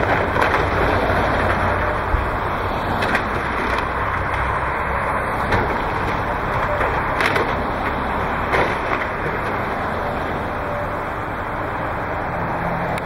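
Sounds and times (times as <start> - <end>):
timber cracking and crunching: 0.0 - 11.3
excavator diesel engine: 0.0 - 13.0.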